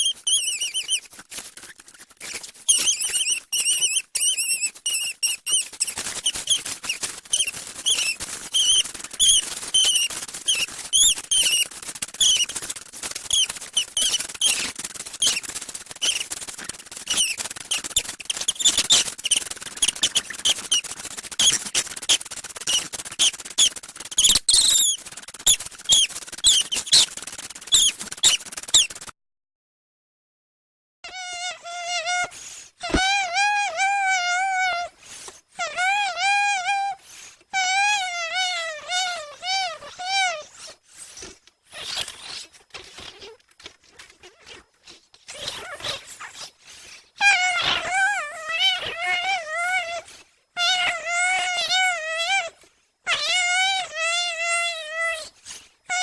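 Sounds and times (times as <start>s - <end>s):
person squeaking with voice: 0.0s - 29.1s, 31.1s - 37.0s, 37.6s - 40.8s, 45.3s - 46.6s, 47.2s - 56.0s.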